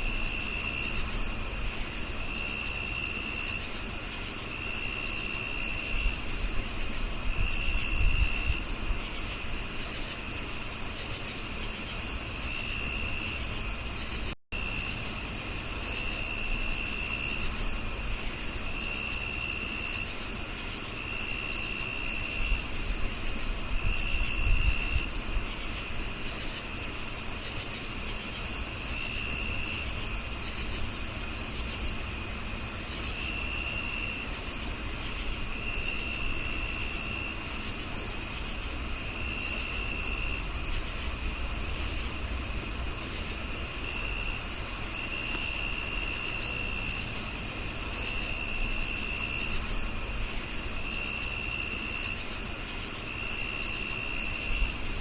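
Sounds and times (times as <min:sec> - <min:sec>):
cricket pulsing chirps: 0:00.0 - 0:55.0
cricket steady high trill: 0:00.0 - 0:55.0
lower cricket short trills: 0:00.0 - 0:55.0.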